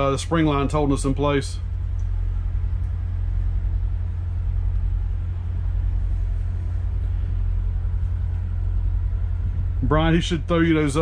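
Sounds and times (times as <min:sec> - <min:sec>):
marine engines idling: 0:00.0 - 0:11.0.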